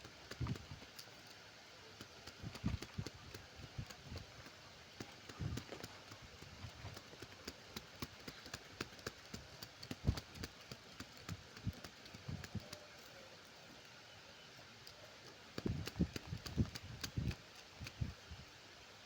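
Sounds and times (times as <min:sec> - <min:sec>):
low steady hiss: 0:00.0 - 0:19.0.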